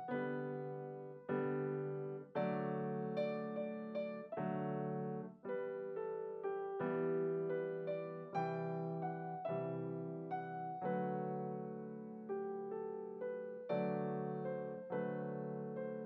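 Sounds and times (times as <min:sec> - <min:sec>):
solo piano chords and melody: 0:00.0 - 0:16.0.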